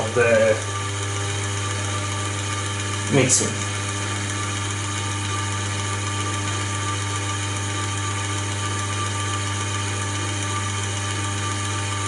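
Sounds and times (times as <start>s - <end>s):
electric motor humming and whining: 0.0s - 12.0s.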